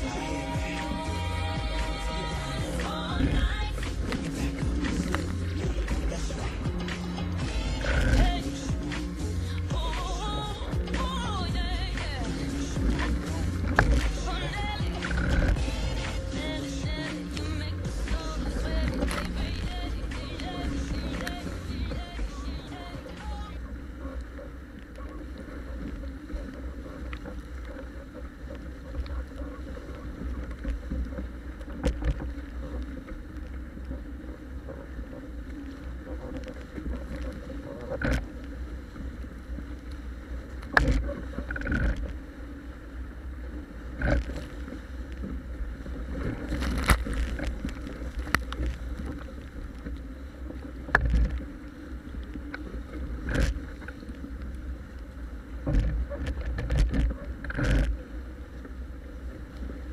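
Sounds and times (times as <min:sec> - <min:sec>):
water rushing along hulls: 0:00.0 - 0:59.9
waves slapping the hull: 0:00.0 - 0:59.9.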